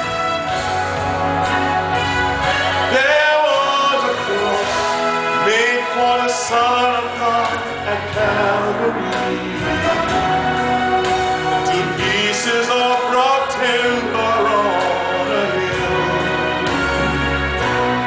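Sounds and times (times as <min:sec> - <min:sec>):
instrumental accompaniment: 0:00.0 - 0:18.0
man singing gospel: 0:02.7 - 0:17.6.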